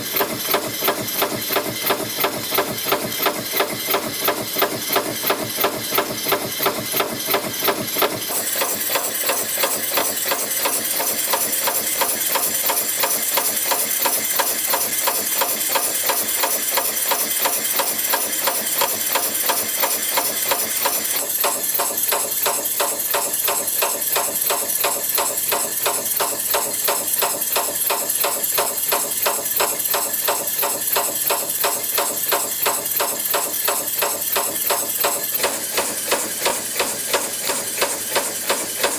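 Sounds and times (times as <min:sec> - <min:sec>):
press machine rapid clatter: 0:00.0 - 0:38.9.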